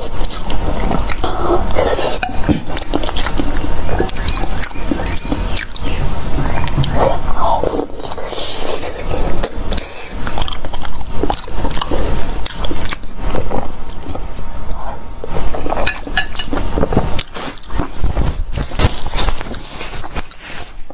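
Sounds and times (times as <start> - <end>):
person chewing food: 0.0 - 20.9.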